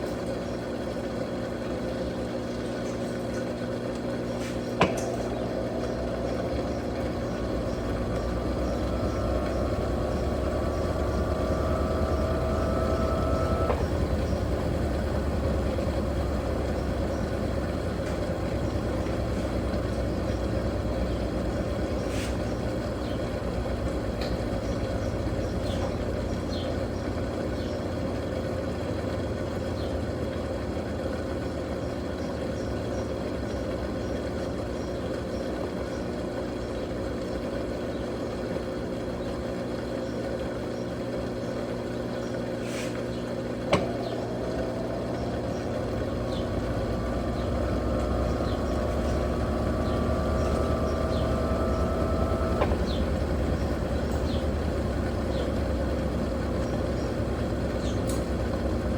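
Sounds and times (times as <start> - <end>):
washing machine motor hum: 0.0 - 58.9.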